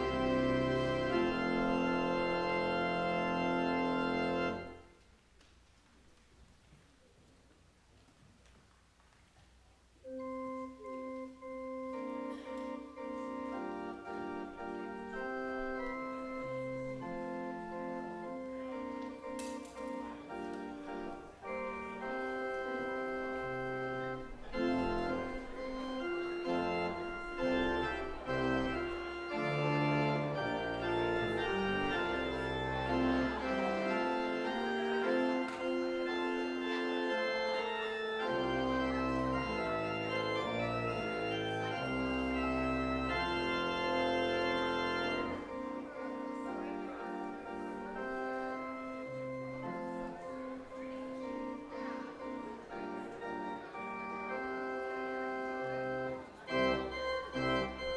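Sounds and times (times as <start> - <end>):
deep organ bass notes: 0.0 - 4.8, 10.1 - 50.6, 52.7 - 57.9
organ chords: 0.0 - 5.0, 10.0 - 57.9.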